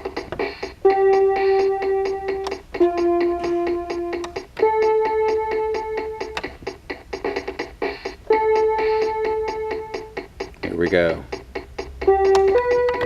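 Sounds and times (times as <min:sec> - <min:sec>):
electronic drum rhythm: 0:00.0 - 0:13.0
toy keyboard held notes: 0:00.0 - 0:13.0.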